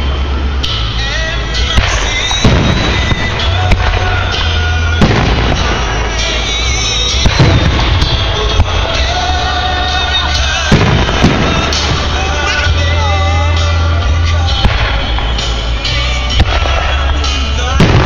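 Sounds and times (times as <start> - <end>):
fireworks bangs and pops: 0.0 - 18.0
music playing: 0.0 - 18.0.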